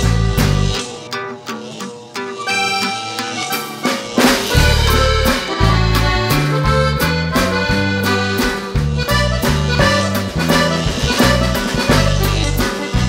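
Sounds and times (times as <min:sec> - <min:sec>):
upbeat music with bass line: 0:00.0 - 0:00.8, 0:02.5 - 0:13.0.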